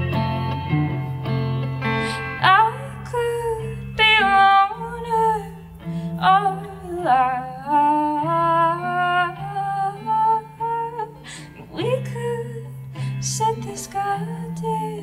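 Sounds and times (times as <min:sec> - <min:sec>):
guitar chords: 0:00.0 - 0:15.0
woman singing: 0:02.0 - 0:15.0.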